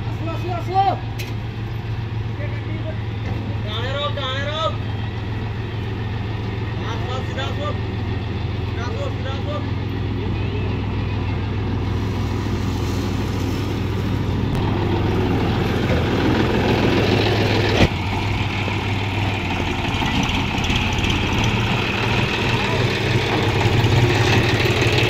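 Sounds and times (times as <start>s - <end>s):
diesel tractor engine idling: 0.0s - 25.0s.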